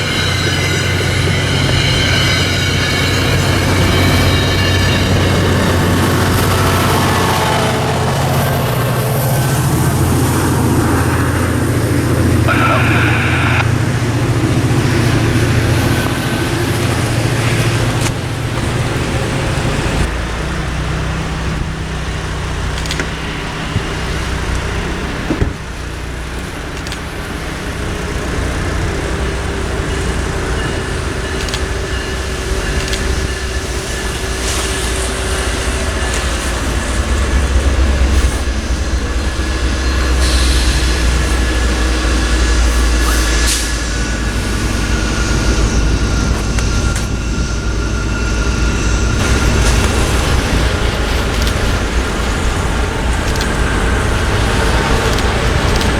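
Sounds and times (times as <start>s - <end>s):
faint steady tones: 0.0s - 55.9s
train rumbling by: 0.0s - 55.9s.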